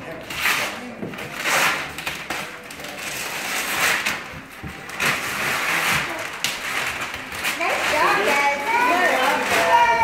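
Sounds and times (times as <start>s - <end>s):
paper packaging crinkling: 0.0s - 10.0s.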